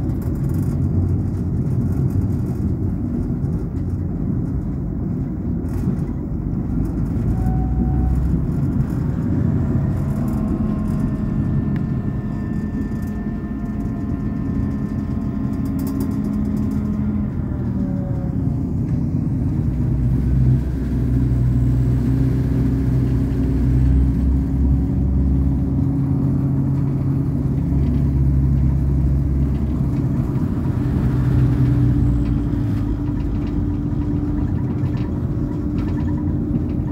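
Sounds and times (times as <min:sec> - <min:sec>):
constant low hum: 0:00.0 - 0:36.9
train rumbling: 0:00.0 - 0:36.9.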